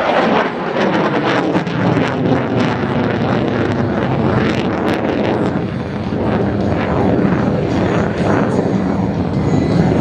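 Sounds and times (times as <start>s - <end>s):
fighter jet engine rumble: 0.0s - 10.0s.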